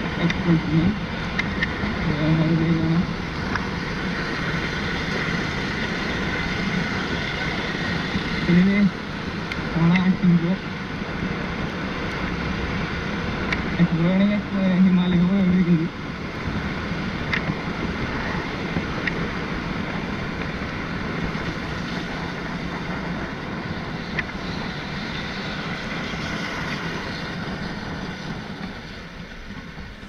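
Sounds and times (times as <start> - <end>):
broad rushing noise: 0.0 - 30.0.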